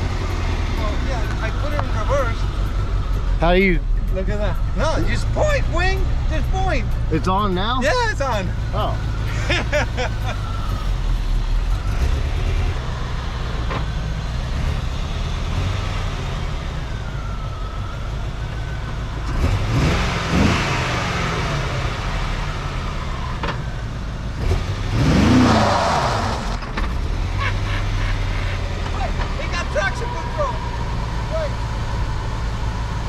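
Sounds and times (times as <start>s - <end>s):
car engine revving: 0.0s - 17.1s, 19.2s - 33.0s.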